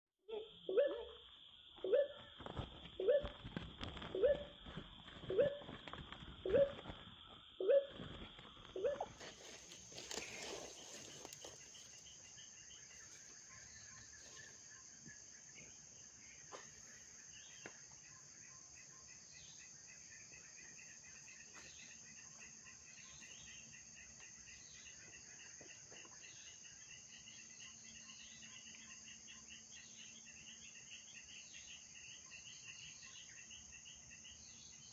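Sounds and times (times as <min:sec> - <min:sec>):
crickets calling: 0:00.3 - 0:34.9.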